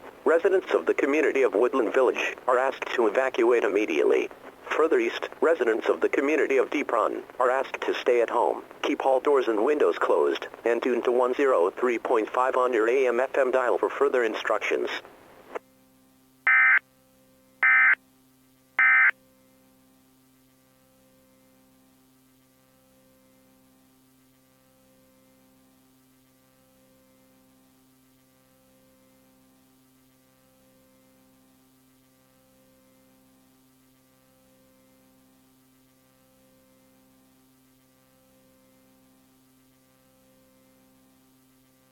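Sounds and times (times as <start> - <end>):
faint pulsing hum: 0.0 - 41.9.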